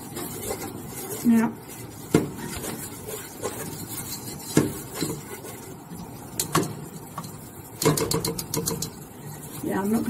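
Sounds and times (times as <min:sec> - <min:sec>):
whisk clacking against pot: 0:00.0 - 0:10.0
whisk scraping in a pot: 0:00.0 - 0:10.0.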